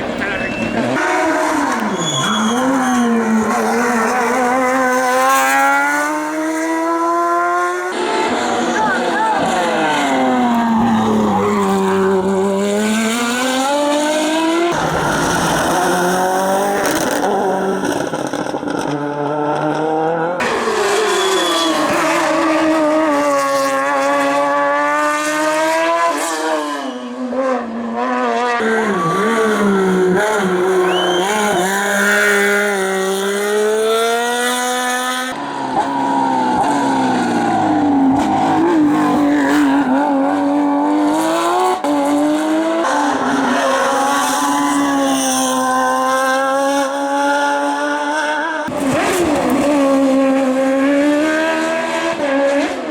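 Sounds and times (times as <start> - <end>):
racing car engines revving: 0.0 - 52.9.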